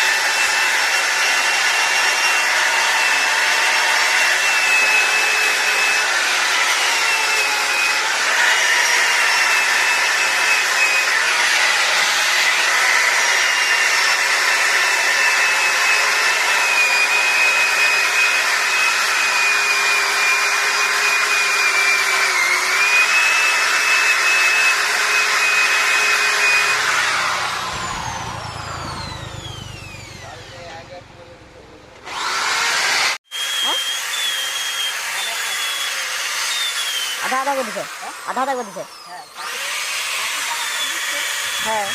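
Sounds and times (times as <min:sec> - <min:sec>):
power tool whining: 0:00.0 - 0:41.9.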